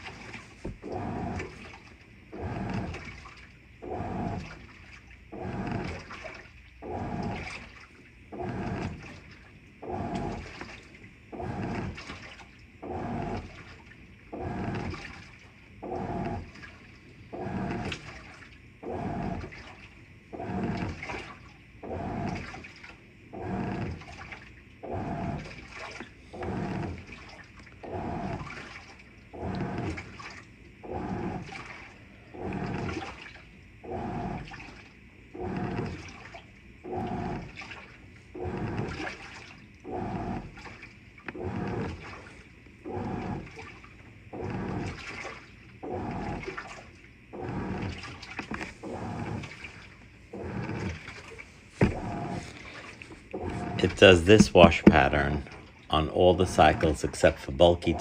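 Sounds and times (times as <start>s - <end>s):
washing machine agitating: 0.0s - 58.0s
water sloshing: 0.0s - 58.0s.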